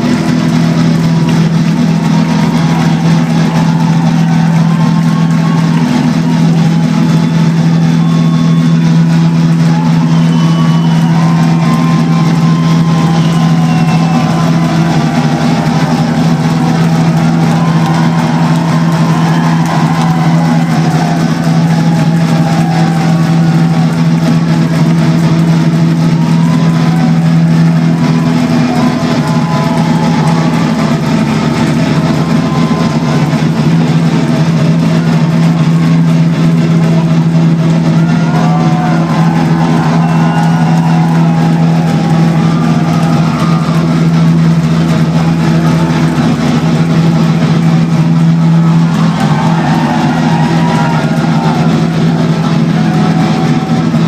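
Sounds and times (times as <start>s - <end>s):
crowd cheering and shouting: 0.0s - 54.0s
steady low drone: 0.0s - 54.0s.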